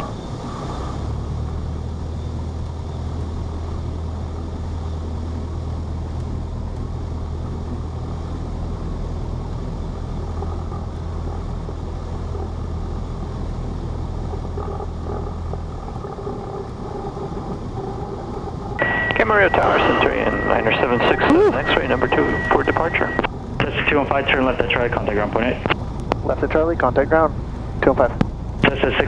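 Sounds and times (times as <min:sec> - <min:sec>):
airplane engine drone in cabin: 0:00.0 - 0:29.0.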